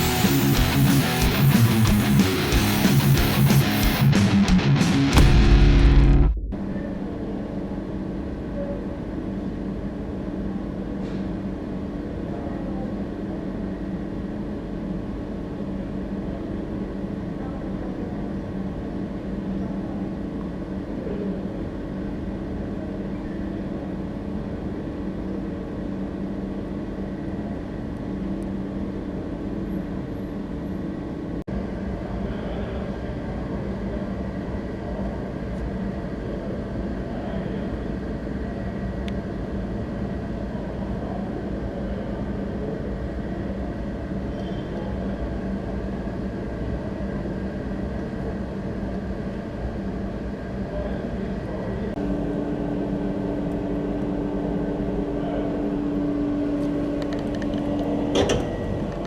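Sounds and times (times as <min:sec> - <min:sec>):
low mechanical hum: 0:04.1 - 0:59.0.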